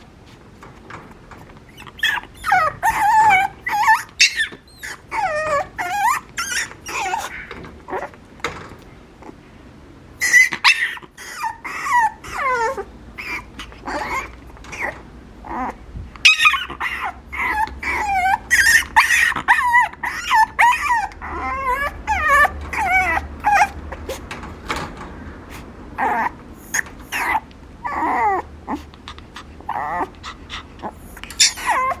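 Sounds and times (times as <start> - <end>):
puppy whining and yipping: 1.4 - 8.2, 10.2 - 24.2, 26.0 - 32.0.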